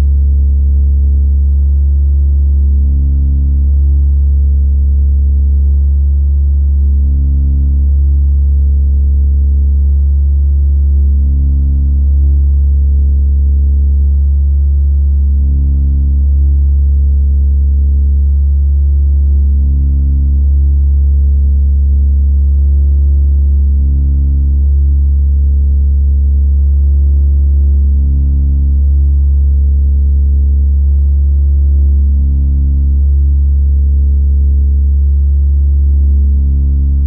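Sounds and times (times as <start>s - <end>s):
mixer feedback low hum: 0.0s - 37.0s.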